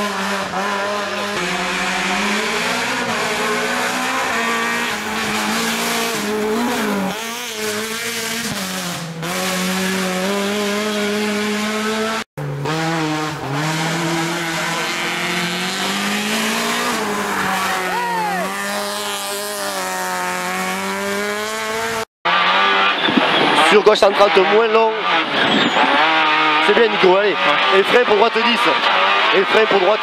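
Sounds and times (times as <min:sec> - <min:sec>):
rally car engine revving high: 0:00.0 - 0:30.0.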